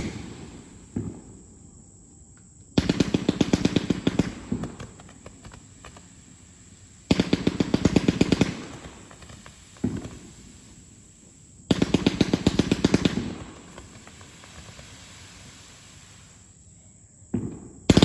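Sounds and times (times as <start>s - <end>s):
firework bang: 0.0s - 1.6s, 2.8s - 16.5s
firework cracks: 0.0s - 1.6s, 2.7s - 16.7s, 17.3s - 18.0s.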